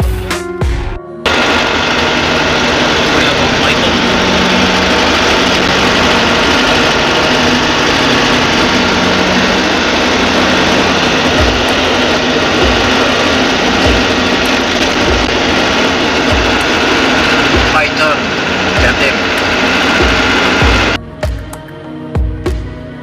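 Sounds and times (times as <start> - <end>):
low hum: 1.2 - 21.0
vehicle engine and road noise: 1.3 - 21.0.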